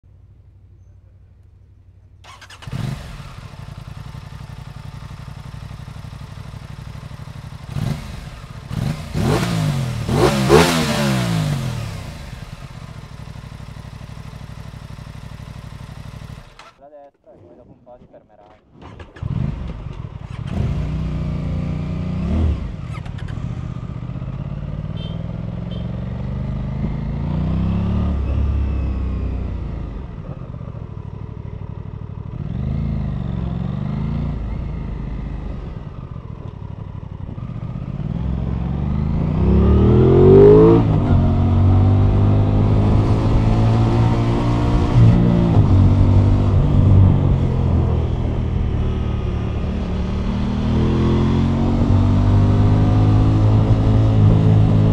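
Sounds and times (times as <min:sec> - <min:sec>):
motorcycle engine accelerating: 0:02.1 - 0:16.8, 0:18.8 - 0:54.9.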